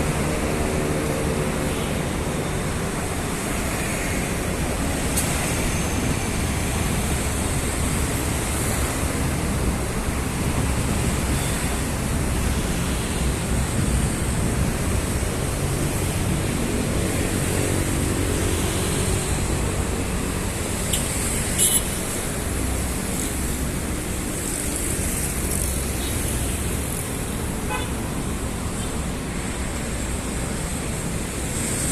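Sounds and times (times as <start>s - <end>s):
city road traffic: 0.0s - 31.9s
vehicle engine hum: 0.0s - 31.9s.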